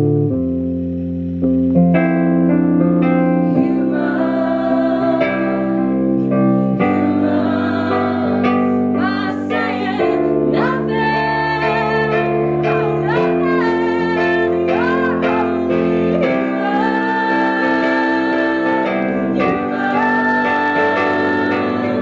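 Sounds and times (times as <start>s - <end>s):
electric piano chords: 0.0s - 22.0s
woman singing: 3.4s - 22.0s.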